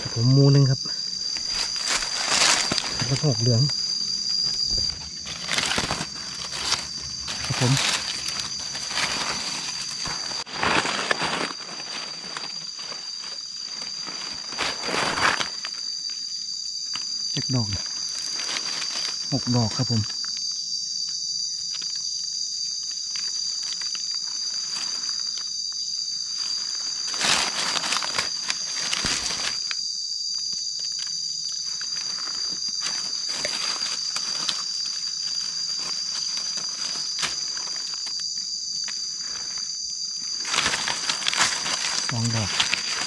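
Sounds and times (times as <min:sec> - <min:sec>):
dry leaves rustling and crackling: 0:00.0 - 0:16.0, 0:16.9 - 0:20.0, 0:22.7 - 0:29.8, 0:30.4 - 0:43.0
forest insects droning: 0:00.0 - 0:43.0.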